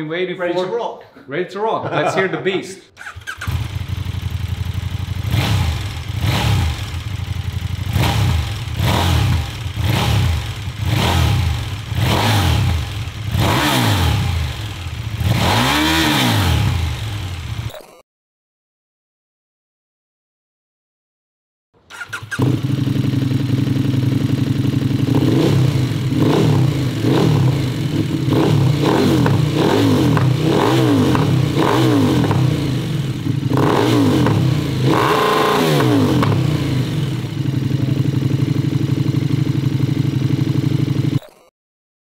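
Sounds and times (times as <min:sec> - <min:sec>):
motorcycle engine idling and revving: 0:03.0 - 0:17.7, 0:21.9 - 0:41.4.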